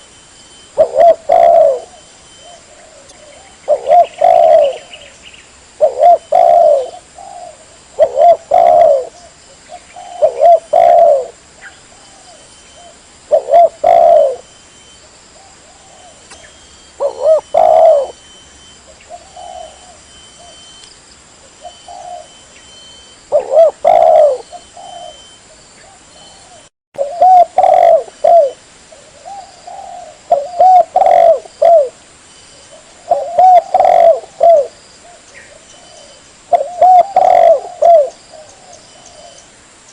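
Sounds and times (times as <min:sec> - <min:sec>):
dove cooing: 0:00.7 - 0:05.2, 0:05.8 - 0:14.6, 0:15.4 - 0:20.7, 0:21.5 - 0:32.0, 0:32.6 - 0:39.5.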